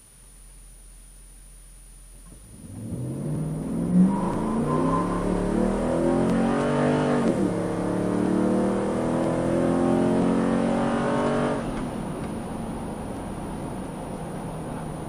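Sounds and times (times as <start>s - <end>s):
road drone: 0.0s - 15.0s
engine exhaust accelerating: 0.3s - 15.0s.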